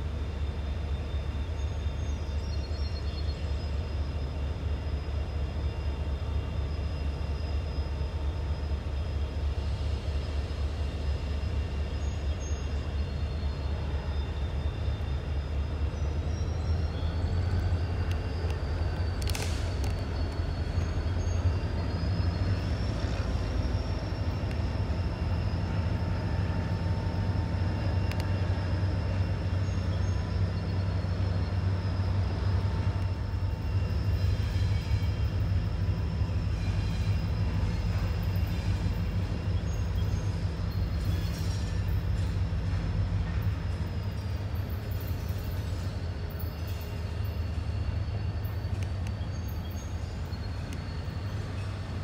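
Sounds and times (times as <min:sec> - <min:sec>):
diesel locomotive droning: 0:00.0 - 0:52.0.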